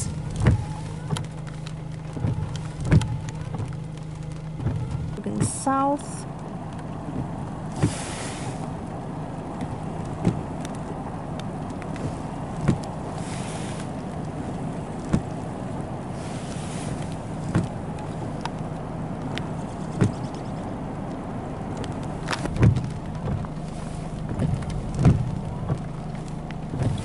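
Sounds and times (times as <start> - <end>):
rain: 0.0 - 27.0
wind: 0.0 - 27.0.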